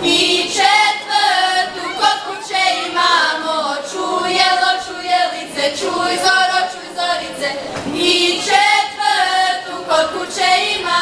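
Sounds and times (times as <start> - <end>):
women's choir singing: 0.0 - 11.0.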